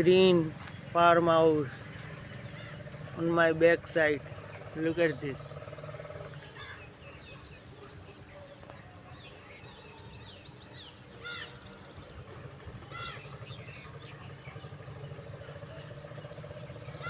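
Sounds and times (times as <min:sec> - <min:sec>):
birds chirping and trilling: 0:00.0 - 0:17.0
low outdoor hum: 0:00.0 - 0:17.0.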